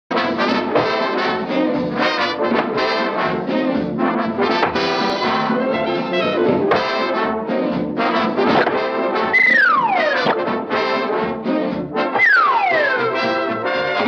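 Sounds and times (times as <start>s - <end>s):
orchestral cartoon music with brass: 0.1s - 14.0s.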